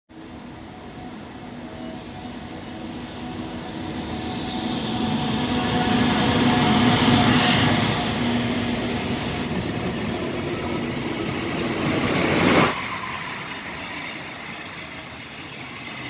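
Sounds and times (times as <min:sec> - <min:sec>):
freight train passing: 0:00.1 - 0:16.0.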